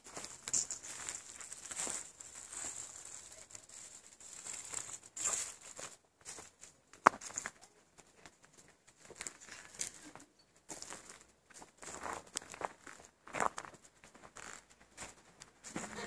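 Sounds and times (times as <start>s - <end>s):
footsteps on dirt and pine needles: 0.0s - 16.0s.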